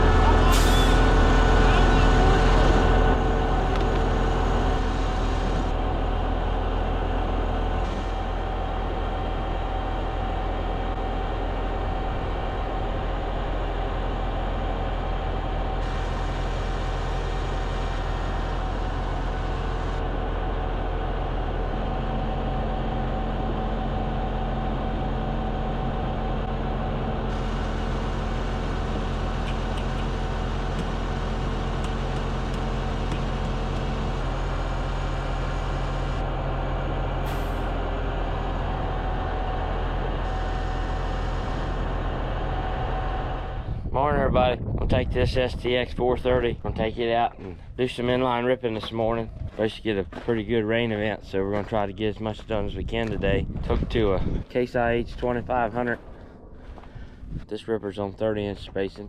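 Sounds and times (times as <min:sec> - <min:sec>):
heavy vehicle engine droning: 0:00.0 - 0:59.0.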